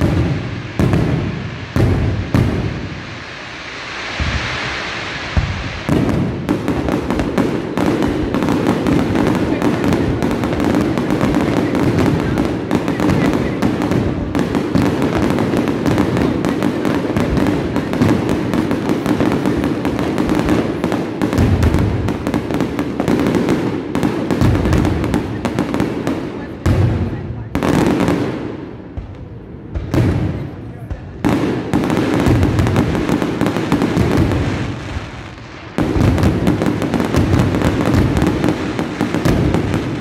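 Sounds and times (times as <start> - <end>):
firework bang: 0.0 - 25.4, 26.6 - 35.1, 35.8 - 40.0
fireworks crackling: 0.0 - 40.0.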